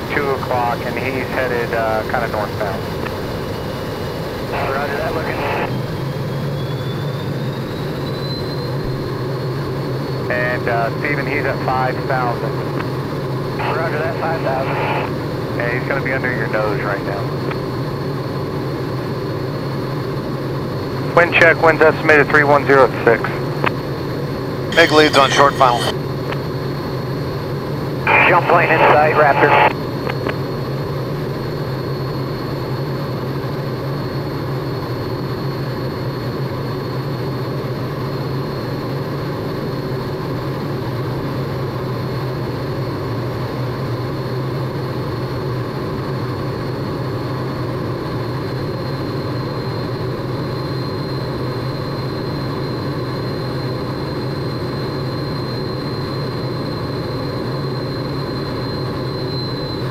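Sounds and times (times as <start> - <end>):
jet engine cockpit rumble: 0.0 - 59.9.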